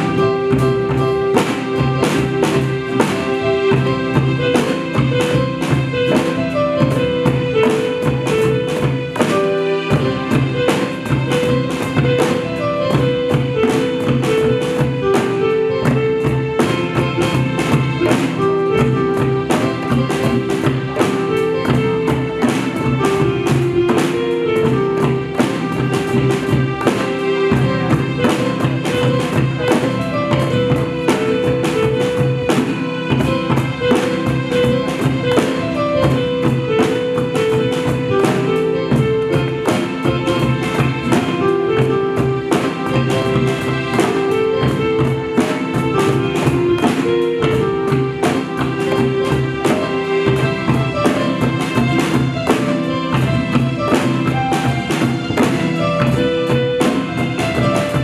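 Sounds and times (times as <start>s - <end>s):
hand drums and drum kit: 0.0s - 58.0s.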